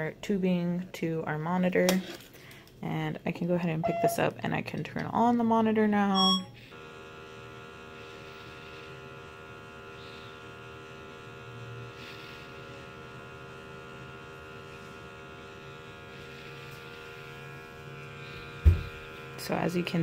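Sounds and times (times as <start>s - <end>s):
electrical hum and buzz: 2.8s - 20.0s.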